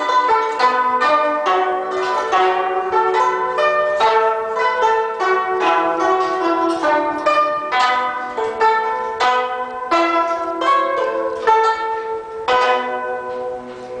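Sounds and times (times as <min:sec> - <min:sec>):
plucked zither ensemble: 0:00.0 - 0:14.0.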